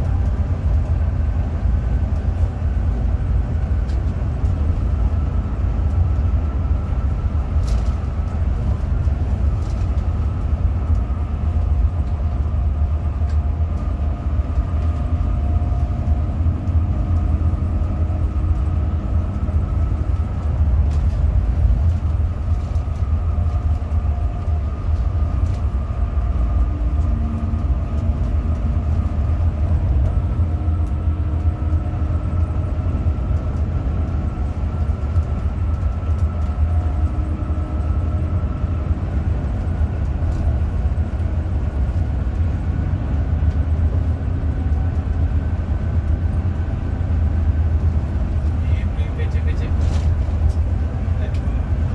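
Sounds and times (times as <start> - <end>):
bus engine rumble: 0.0 - 51.9.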